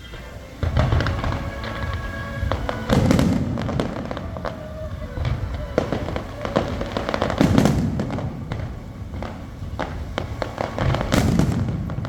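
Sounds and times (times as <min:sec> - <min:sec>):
fireworks bangs and crackles: 0:00.0 - 0:12.0
fireworks booms: 0:00.0 - 0:12.0.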